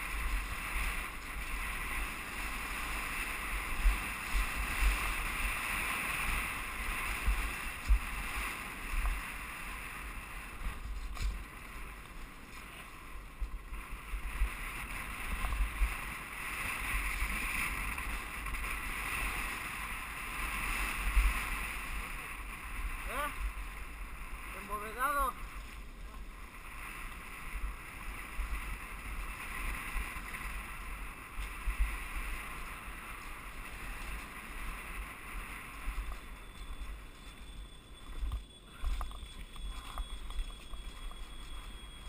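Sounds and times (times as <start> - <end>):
wind rushing over camera: 0.0 - 42.0.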